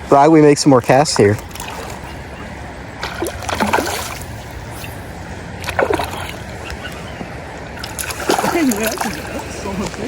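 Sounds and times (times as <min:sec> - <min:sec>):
creek water running: 0:00.0 - 0:10.0
water splashes: 0:00.8 - 0:10.0.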